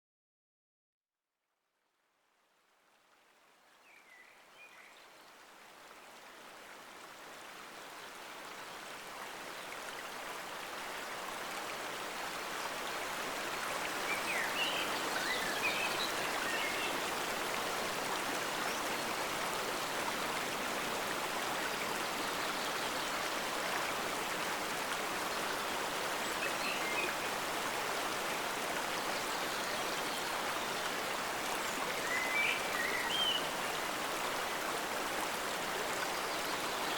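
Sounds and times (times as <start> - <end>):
forest stream flowing: 2.0 - 36.9.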